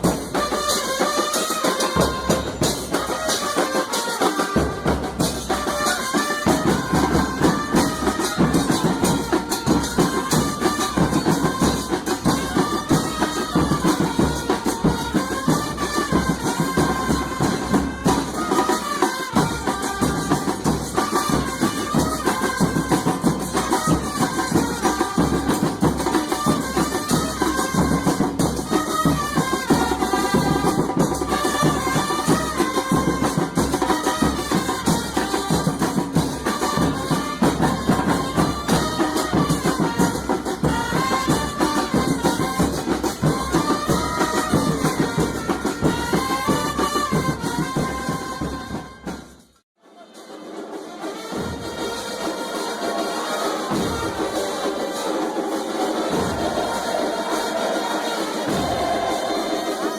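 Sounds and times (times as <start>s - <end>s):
music with fast percussion beat: 0.0s - 59.9s.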